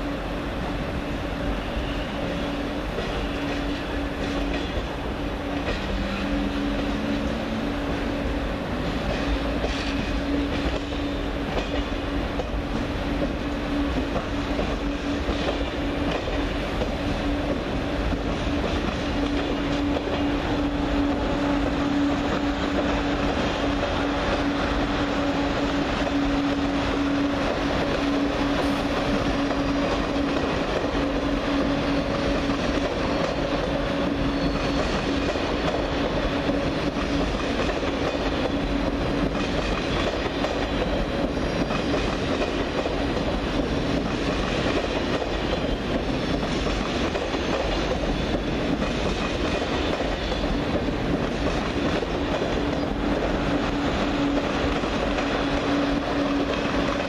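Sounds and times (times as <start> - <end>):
train rolling slowly: 0.0 - 57.0.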